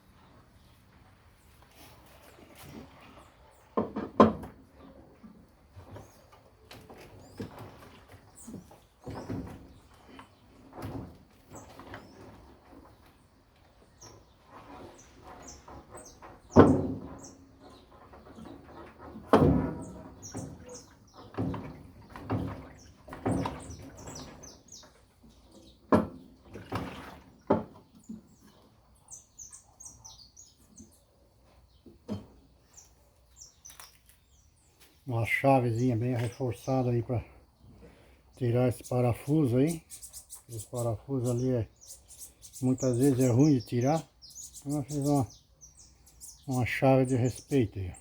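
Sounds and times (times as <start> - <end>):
small birds chirping: 5.9 - 26.8, 27.7 - 48.0.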